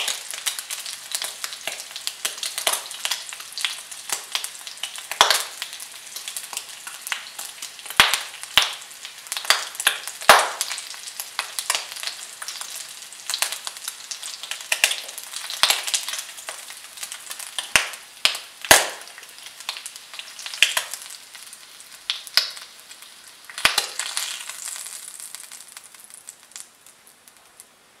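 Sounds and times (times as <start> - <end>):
bacon sizzling in frying pan: 0.0 - 27.9.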